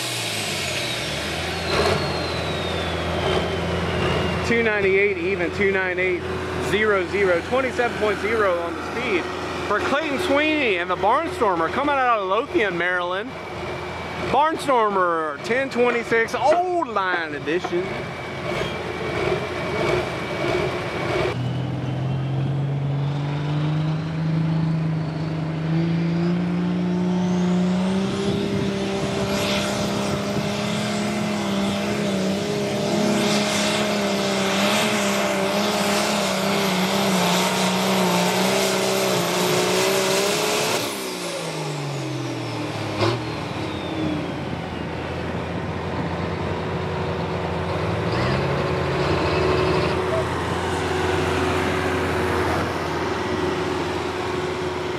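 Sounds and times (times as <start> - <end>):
tractor engine under load: 0.0 - 25.8, 30.0 - 54.9
turbocharger whistle: 0.0 - 44.9, 49.2 - 51.6.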